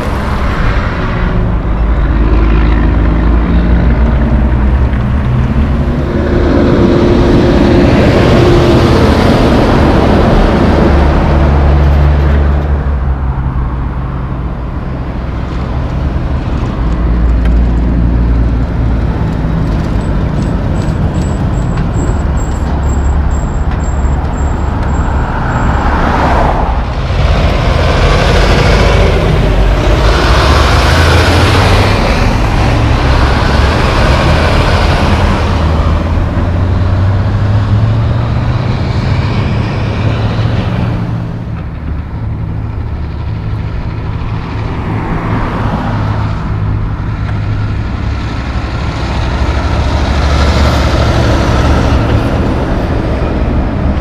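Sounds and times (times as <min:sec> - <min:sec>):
diesel trucks passing: 0:00.0 - 0:54.0.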